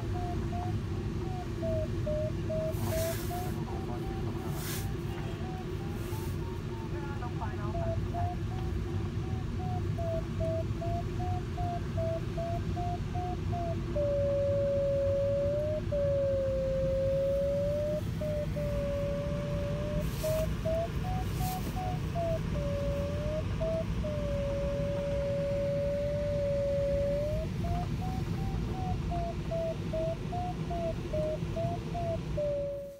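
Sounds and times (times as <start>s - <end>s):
variometer beeps: 0.0s - 32.9s
variometer steady low tone: 0.0s - 32.9s
airflow rushing over cockpit: 0.1s - 11.1s, 11.8s - 32.9s.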